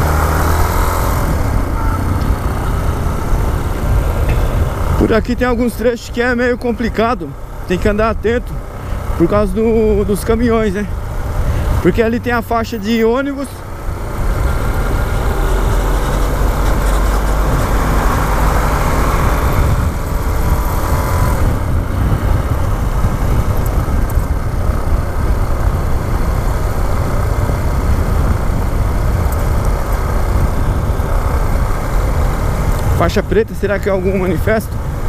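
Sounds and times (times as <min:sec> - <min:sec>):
motorcycle engine: 0:00.0 - 0:35.0
traffic: 0:00.0 - 0:35.0
wind rumbling on microphone: 0:00.0 - 0:35.0.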